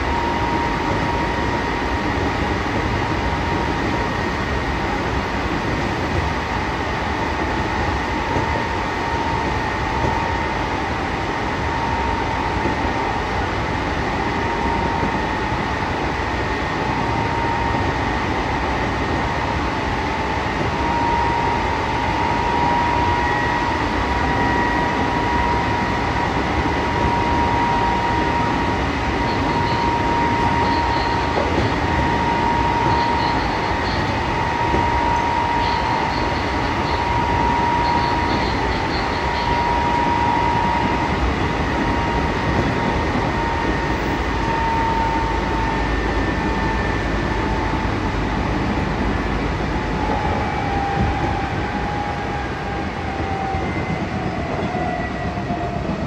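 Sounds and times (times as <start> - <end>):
electric train rumbling: 0.0 - 56.0
high motor whine: 6.6 - 53.8.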